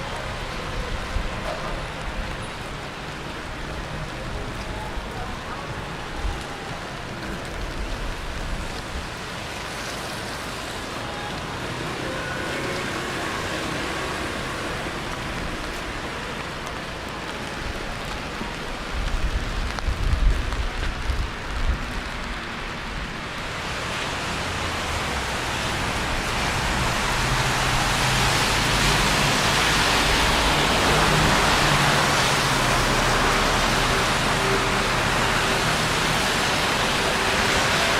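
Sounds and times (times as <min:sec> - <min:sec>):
rain hiss on street: 0:00.0 - 0:37.9.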